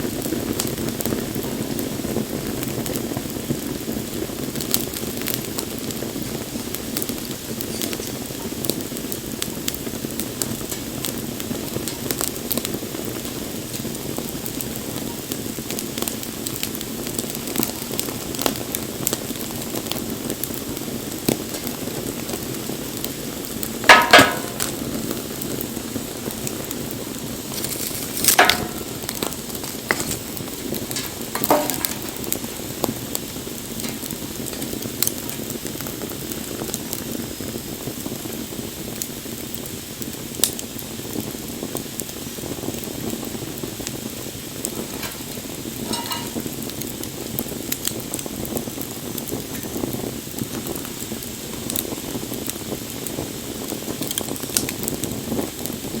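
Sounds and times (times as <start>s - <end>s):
campfire burning: 0.0s - 56.0s
fire crackles: 0.0s - 56.0s
fire pops: 0.0s - 56.0s.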